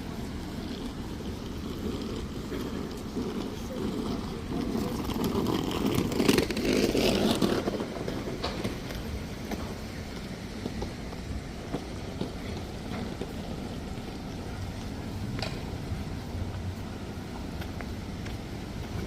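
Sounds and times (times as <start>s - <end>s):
low rumble of city traffic: 0.0s - 19.0s.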